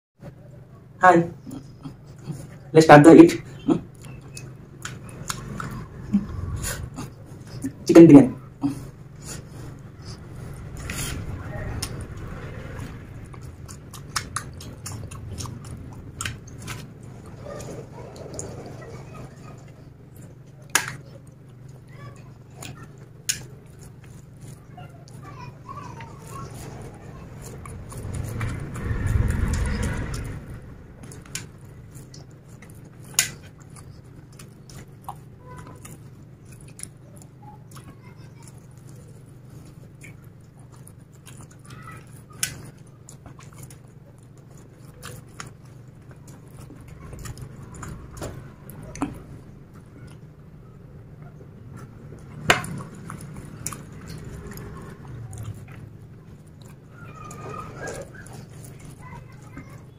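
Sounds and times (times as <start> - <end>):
steady low hum: 0.2 - 59.9
chewing and mouth sounds: 1.4 - 2.7, 3.3 - 59.9.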